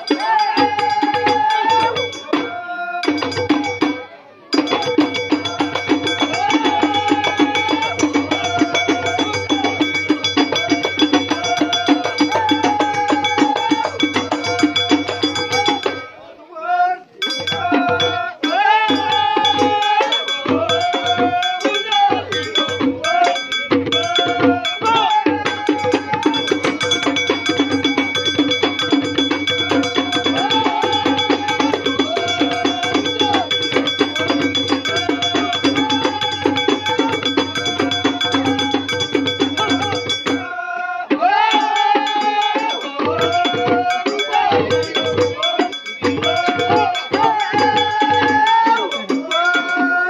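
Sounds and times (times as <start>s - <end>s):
men chanting together: 0.0s - 4.0s, 4.6s - 50.0s
frame drums beating: 0.0s - 16.2s, 17.2s - 50.0s.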